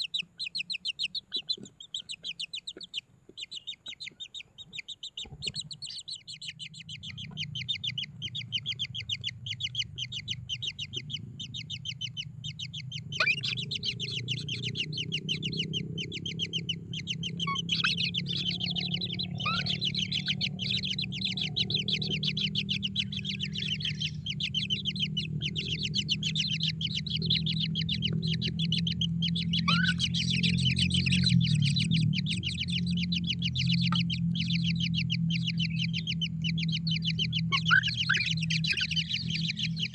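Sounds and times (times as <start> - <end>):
chicks chirping: 0.0 - 39.9
steady low hum: 0.0 - 39.9.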